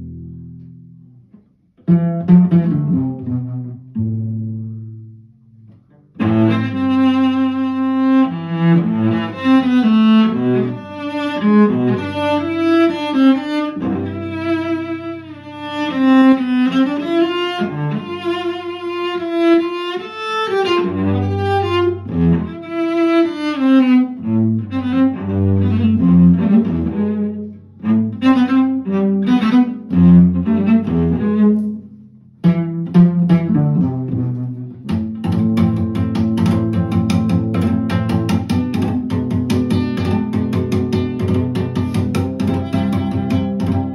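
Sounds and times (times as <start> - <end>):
bowed cello melody: 0.0 - 43.9.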